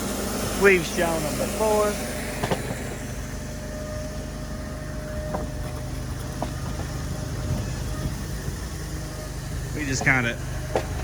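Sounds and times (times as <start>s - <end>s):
sawmill engine idling: 0.0s - 11.0s.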